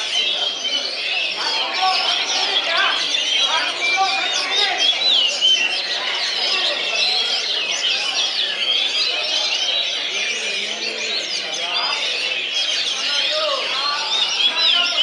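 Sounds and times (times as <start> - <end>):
murmur of voices: 0.0 - 15.0
songbirds chirping and whistling: 0.0 - 15.0.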